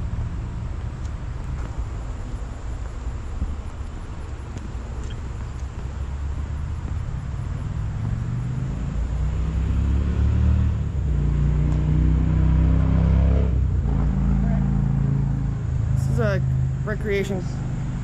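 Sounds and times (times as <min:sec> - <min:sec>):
car engine: 0:00.0 - 0:18.0
road noise: 0:00.0 - 0:18.0.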